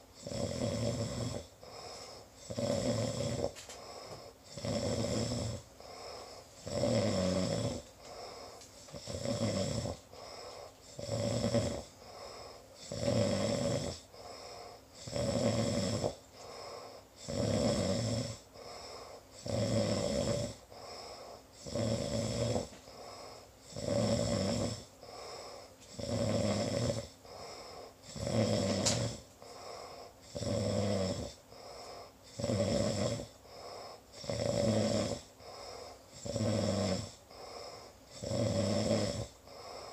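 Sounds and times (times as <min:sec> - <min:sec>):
person snoring: 0:00.0 - 0:39.9.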